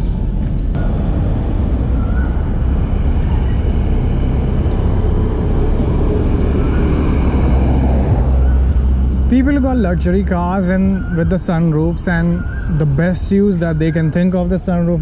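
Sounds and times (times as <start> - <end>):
cars driving past: 0.8 - 14.6.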